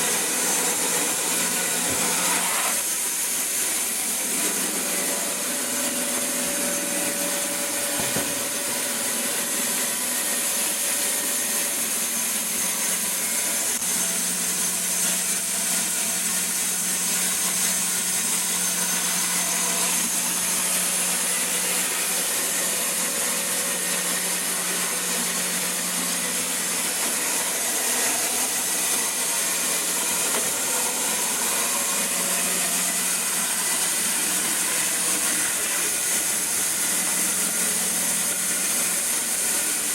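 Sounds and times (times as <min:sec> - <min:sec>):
band saw sawing wood: 0:00.0 - 0:39.9.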